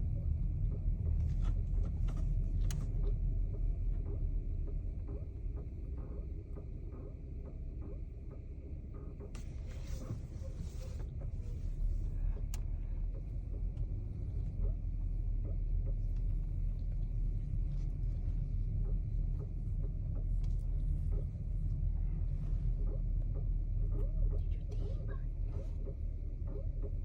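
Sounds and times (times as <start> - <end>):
car engine running: 0.0 - 27.0
steering clicks: 0.6 - 27.0.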